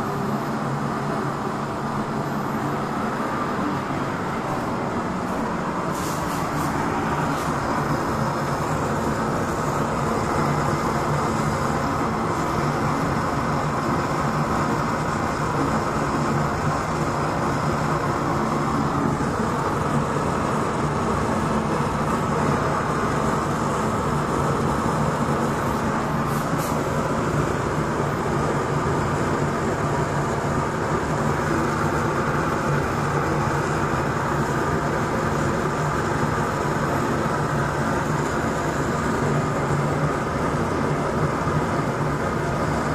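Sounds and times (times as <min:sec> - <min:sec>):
oil stove blower roar: 0:00.0 - 0:42.9.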